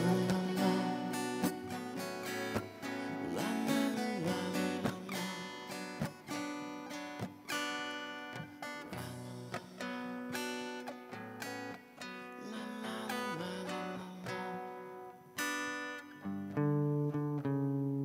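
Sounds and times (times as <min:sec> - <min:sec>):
acoustic guitars strumming chords: 0:00.0 - 0:18.0.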